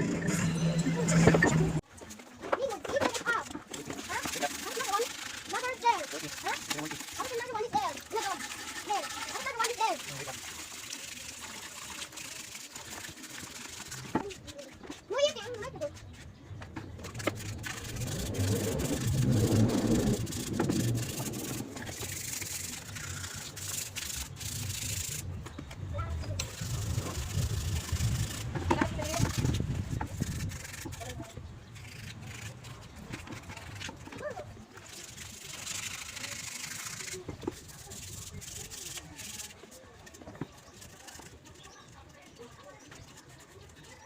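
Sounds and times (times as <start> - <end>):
hands rubbing and scraping: 0.0 - 44.0.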